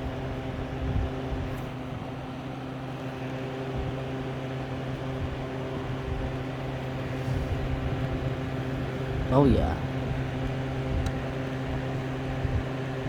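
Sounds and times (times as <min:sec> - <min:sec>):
fan air rushing: 0:00.0 - 0:13.0
fan motor hum: 0:00.0 - 0:13.0.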